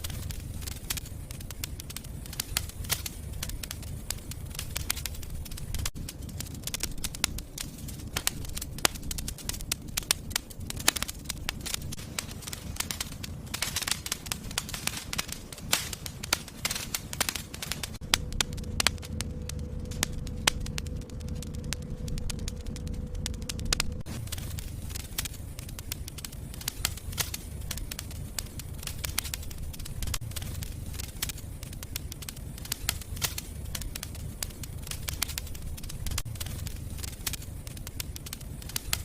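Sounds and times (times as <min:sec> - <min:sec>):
faint steady hum: 0:00.0 - 0:39.0
low rumble of flames: 0:00.0 - 0:39.0
wood fire crackling and popping: 0:00.0 - 0:39.0.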